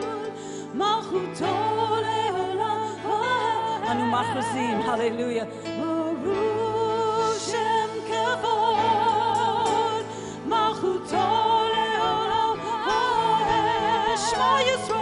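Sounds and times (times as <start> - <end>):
keyboard accompaniment: 0.0 - 15.0
singers holding long vibrato notes: 0.0 - 15.0
worship band playing: 0.0 - 15.0.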